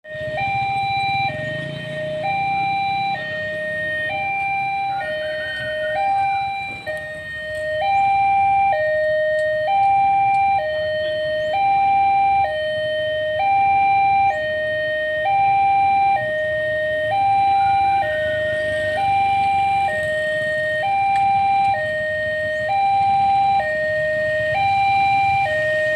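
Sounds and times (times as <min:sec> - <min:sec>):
two-tone electronic warning signal: 0:00.0 - 0:25.9.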